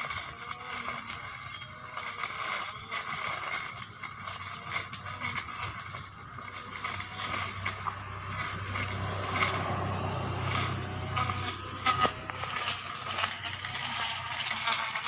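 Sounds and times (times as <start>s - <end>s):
electric grass cutter running: 0.0s - 15.0s.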